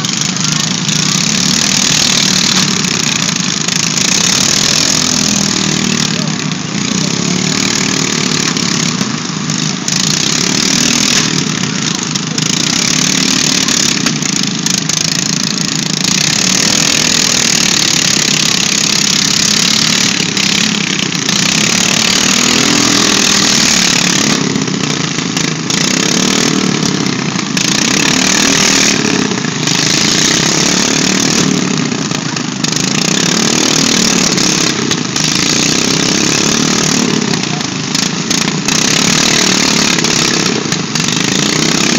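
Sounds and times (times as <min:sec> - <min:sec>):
lawn mower engines running: 0:00.0 - 0:41.9.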